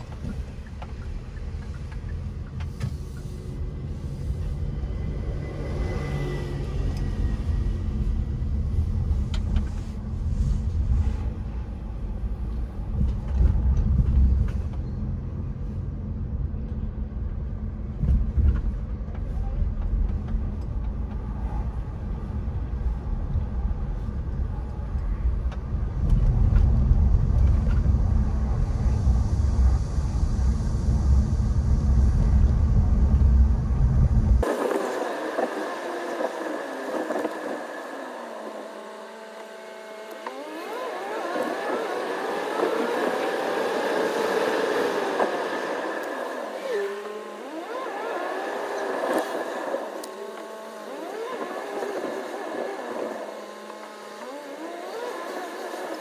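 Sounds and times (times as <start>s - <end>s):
car road noise rumble: 0.0s - 56.0s
traffic passing: 0.0s - 56.0s.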